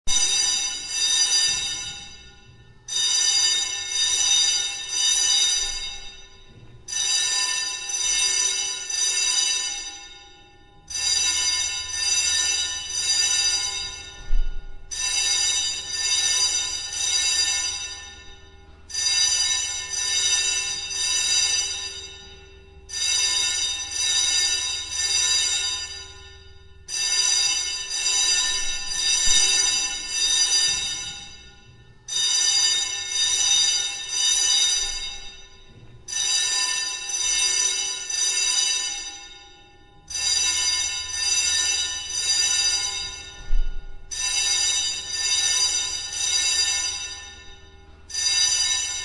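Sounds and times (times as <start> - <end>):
fire alarm ringing: 0.1 - 49.0.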